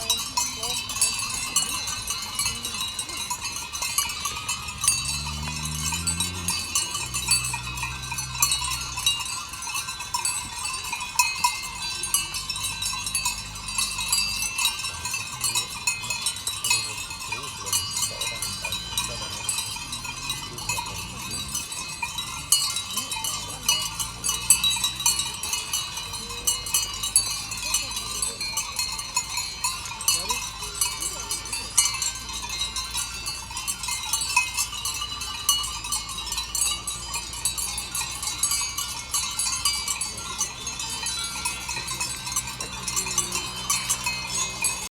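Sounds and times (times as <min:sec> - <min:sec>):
sheep bells clinking: 0:00.0 - 0:44.9.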